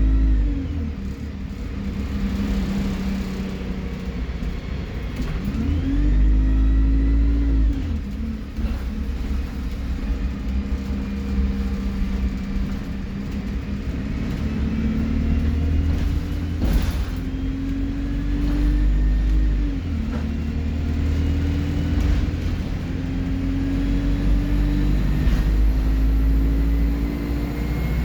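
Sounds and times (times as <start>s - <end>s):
bus engine pulling under load: 0.0s - 28.0s.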